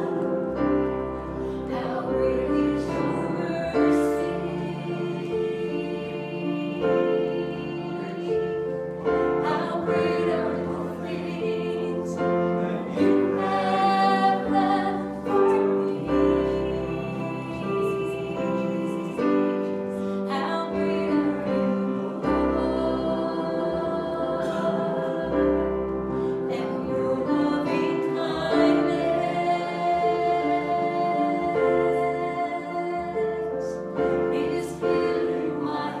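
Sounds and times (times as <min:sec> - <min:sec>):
worship song with instruments: 0:00.0 - 0:36.0.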